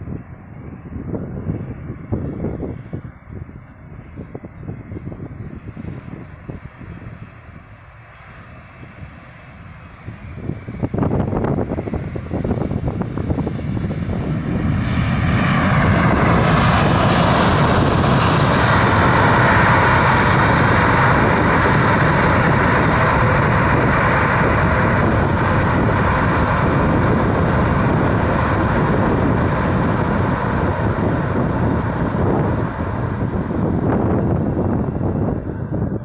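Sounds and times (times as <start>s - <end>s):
jet engines rushing: 0.0s - 36.0s.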